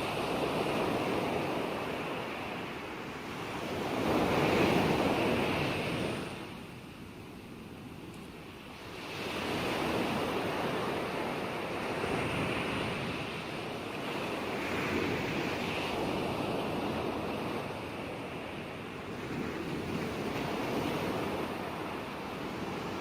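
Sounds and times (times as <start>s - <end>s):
ocean surf washing: 0.0s - 23.0s.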